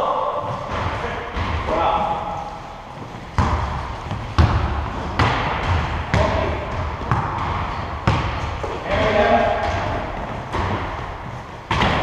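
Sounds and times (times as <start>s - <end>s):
basketball bouncing on court: 0.5s - 2.2s, 3.2s - 12.0s.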